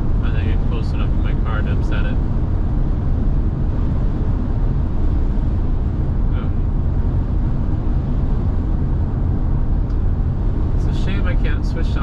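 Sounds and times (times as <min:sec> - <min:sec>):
gusty wind: 0:00.0 - 0:12.0
road noise inside car cabin: 0:00.0 - 0:12.0.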